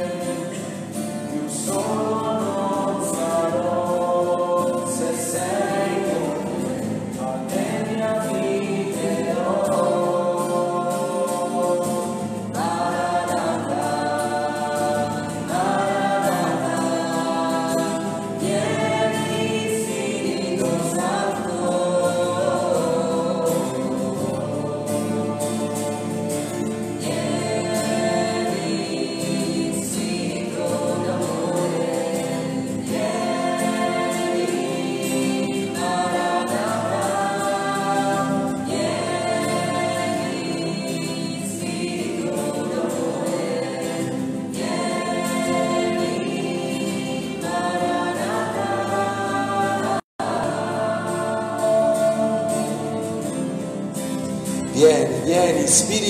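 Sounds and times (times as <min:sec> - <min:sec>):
choir singing a slow worship song: 0:00.0 - 0:56.0.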